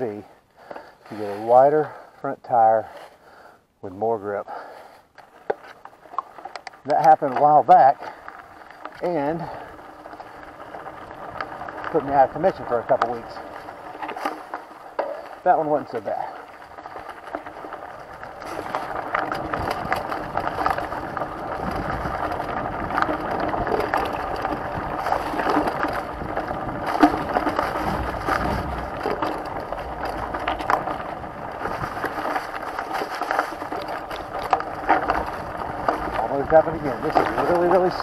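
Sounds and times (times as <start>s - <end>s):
bike clicking and rattling: 0.0s - 38.0s
bike tyres rolling over dry leaves: 0.0s - 38.0s.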